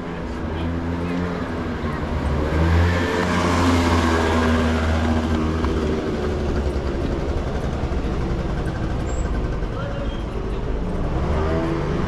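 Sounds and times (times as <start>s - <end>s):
motor scooter engine running: 0.6s - 12.0s.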